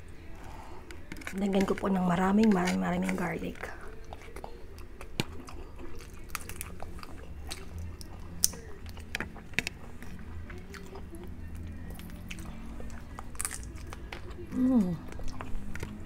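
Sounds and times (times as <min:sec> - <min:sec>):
wet biting and chewing: 0:00.9 - 0:16.0.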